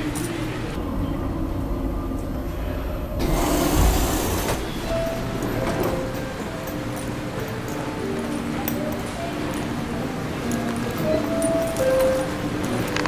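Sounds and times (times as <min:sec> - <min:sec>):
elevator running low rumble: 0:00.0 - 0:13.0
elevator doors sliding open: 0:02.2 - 0:13.0.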